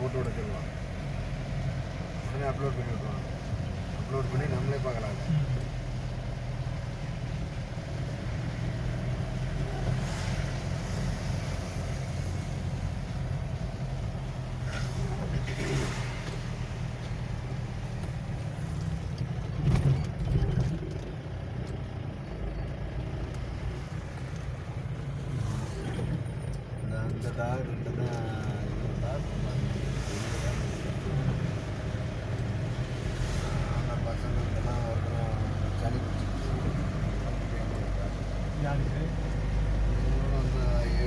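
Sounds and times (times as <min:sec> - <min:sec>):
road noise: 0:00.0 - 0:41.0
vehicle engine rumble: 0:00.0 - 0:41.0.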